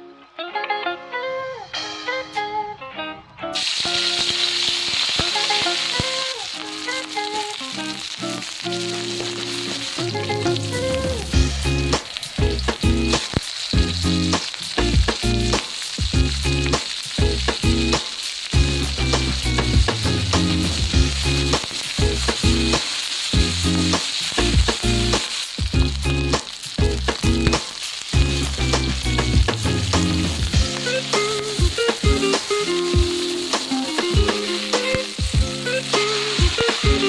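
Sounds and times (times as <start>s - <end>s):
noodles sizzling in oil: 3.6s - 37.0s.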